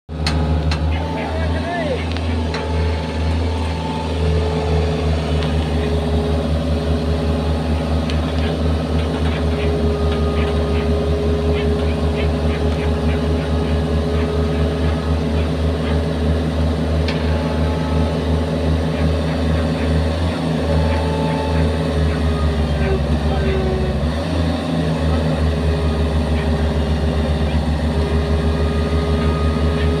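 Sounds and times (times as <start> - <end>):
diesel engine running: 0.1 - 30.0
steady whine: 0.1 - 30.0.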